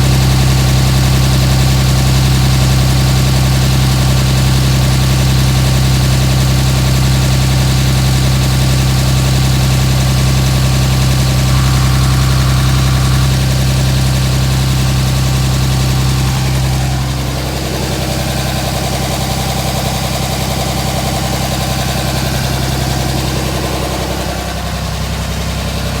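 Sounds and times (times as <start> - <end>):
diesel engine rough idle: 0.0 - 26.0.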